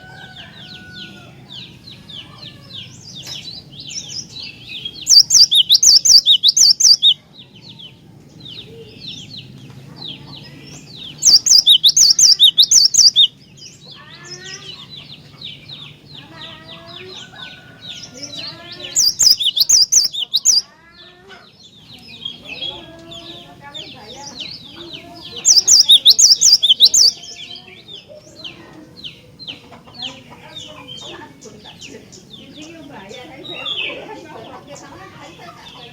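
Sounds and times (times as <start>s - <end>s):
bird twittering and chirps: 0.0s - 35.9s.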